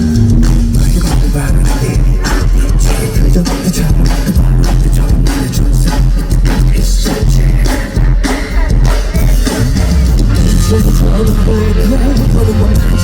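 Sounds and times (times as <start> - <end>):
drum kit beating: 0.0 - 13.0
live rock band: 0.0 - 13.0.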